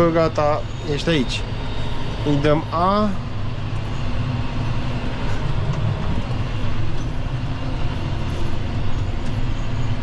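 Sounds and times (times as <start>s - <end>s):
tractor diesel engine drone: 0.0s - 10.0s.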